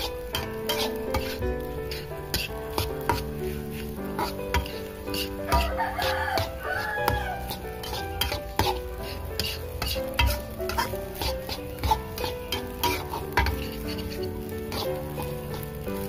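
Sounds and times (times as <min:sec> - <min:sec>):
background music: 0:00.0 - 0:16.0
light sizzle: 0:00.0 - 0:16.0
metal spatula scraping a wok: 0:00.0 - 0:16.0.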